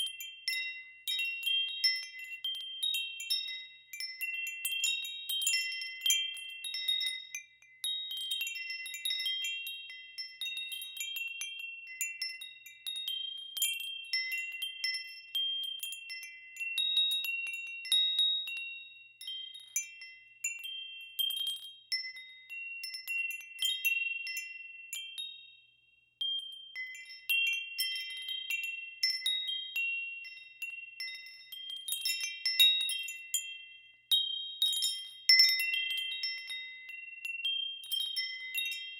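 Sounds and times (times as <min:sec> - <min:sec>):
wind chimes ringing: 0:00.0 - 0:38.9.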